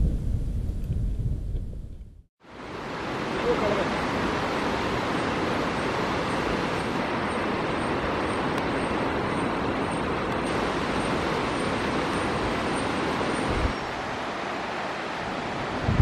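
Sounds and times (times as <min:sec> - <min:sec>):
fast-flowing river rushing: 0:02.5 - 0:16.0.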